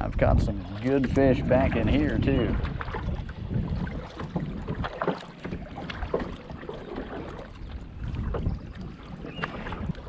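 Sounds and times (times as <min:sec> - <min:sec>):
wind rumble on microphone: 0:00.0 - 0:10.0
paddle splashing in water: 0:00.5 - 0:10.0.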